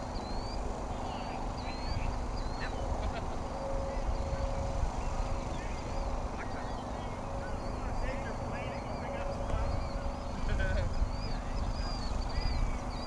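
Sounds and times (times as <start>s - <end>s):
birds chirping: 0.0s - 13.0s
wind rumble on microphone: 0.0s - 13.0s.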